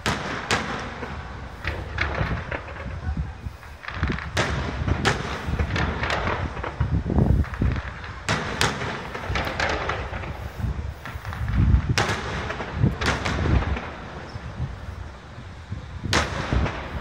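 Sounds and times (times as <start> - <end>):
fireworks bangs and crackles: 0.0 - 17.0
low booming rumble: 1.0 - 17.0.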